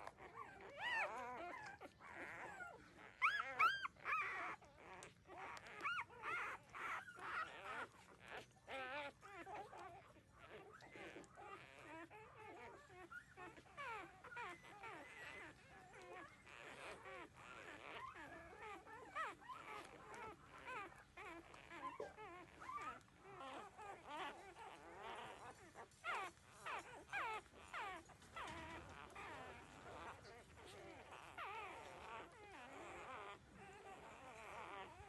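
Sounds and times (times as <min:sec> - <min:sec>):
puppies whimpering and squeaking: 0:00.0 - 0:35.0.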